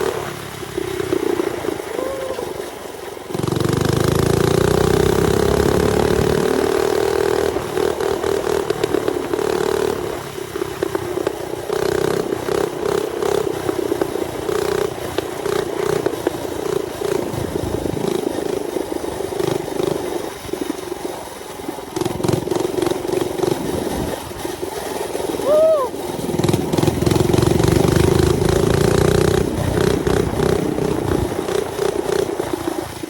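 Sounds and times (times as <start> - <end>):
mini bike engine running: 0.0 - 33.0.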